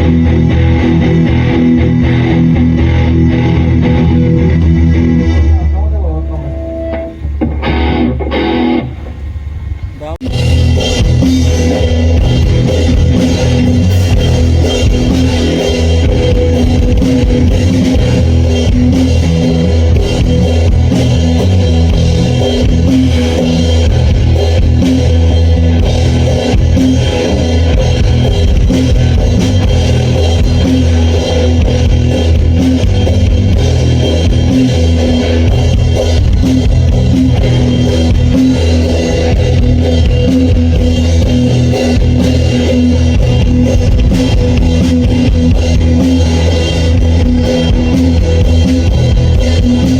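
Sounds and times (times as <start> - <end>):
drum kit: 0.0 - 49.9
electric guitar: 0.0 - 49.9
rock band playing: 0.0 - 49.9.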